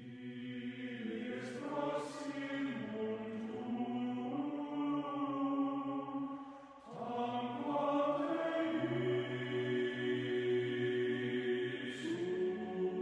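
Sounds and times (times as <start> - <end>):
held chant-like vocal tones: 0.0 - 13.0.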